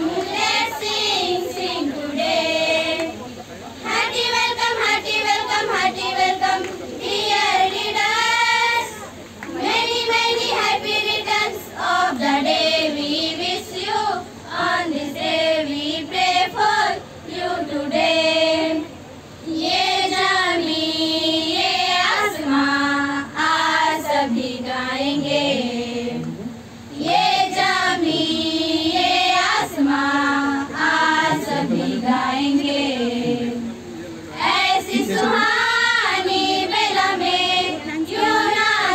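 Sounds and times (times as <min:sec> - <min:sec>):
girls singing together: 0:00.0 - 0:03.2, 0:03.8 - 0:38.9.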